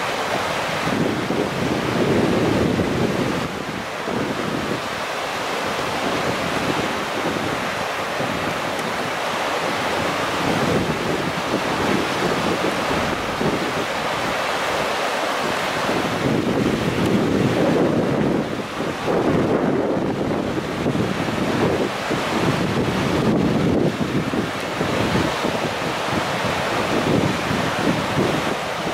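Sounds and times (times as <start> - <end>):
river rushing: 0.0 - 28.9
wind buffeting microphone: 0.0 - 28.9.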